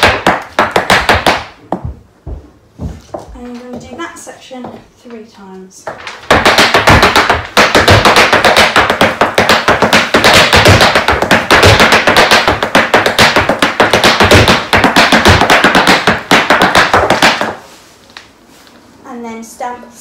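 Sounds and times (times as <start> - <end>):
hard shoes tapping on floor mat: 0.0 - 5.2, 5.8 - 17.7.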